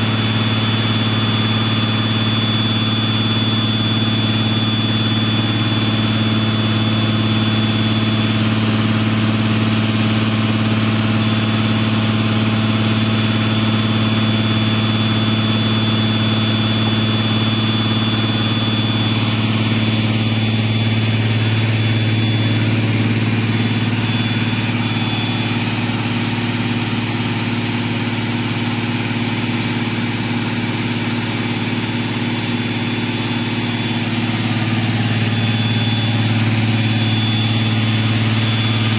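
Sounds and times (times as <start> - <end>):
drill rig engine humming: 0.0 - 38.9
high whine: 0.0 - 38.9.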